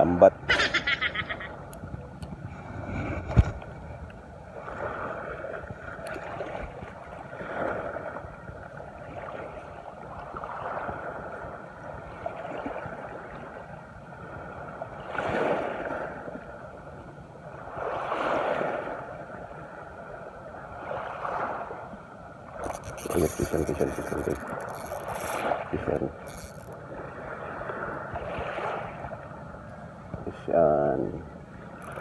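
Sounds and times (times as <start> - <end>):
small waves washing ashore: 0.0 - 32.0.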